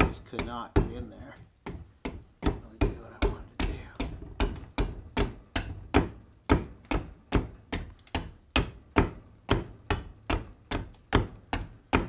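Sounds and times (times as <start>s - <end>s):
axe chopping wood: 0.0s - 12.0s.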